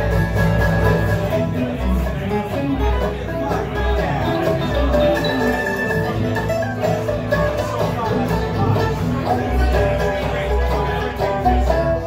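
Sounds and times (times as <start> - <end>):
picked mandolin: 0.0 - 12.0
strummed acoustic guitar: 0.0 - 12.0
upright bass walking: 0.0 - 12.0.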